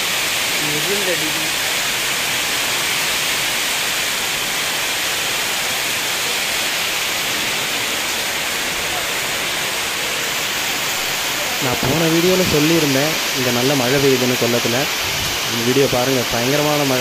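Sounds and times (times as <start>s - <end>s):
torrential rain in strong wind: 0.0s - 17.0s.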